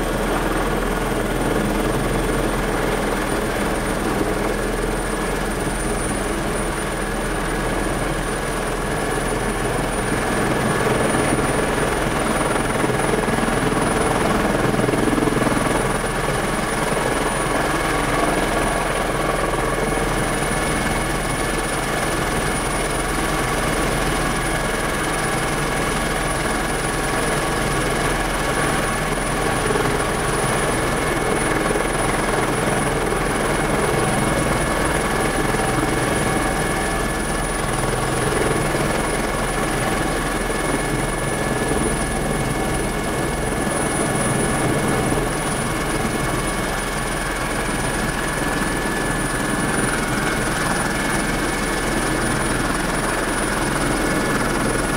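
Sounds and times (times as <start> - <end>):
helicopter rotor and engine noise: 0.0 - 54.9.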